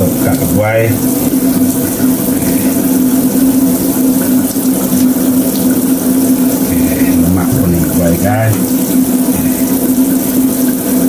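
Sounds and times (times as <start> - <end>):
steady low hum: 0.0 - 11.0
water running from a tap: 0.0 - 11.0.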